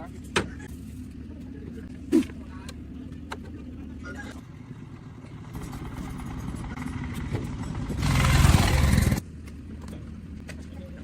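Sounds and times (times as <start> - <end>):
vehicle engine humming: 0.7 - 11.0.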